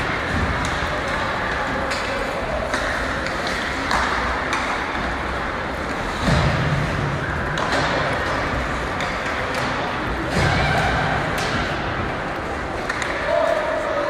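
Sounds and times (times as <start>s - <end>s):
hockey sticks and puck clicking: 0.0s - 14.0s.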